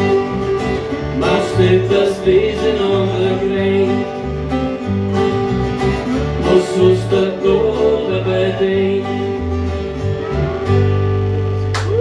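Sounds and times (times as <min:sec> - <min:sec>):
electric bass: 0:00.0 - 0:12.0
resonator guitar: 0:00.0 - 0:12.0
strummed acoustic guitar: 0:00.0 - 0:12.0.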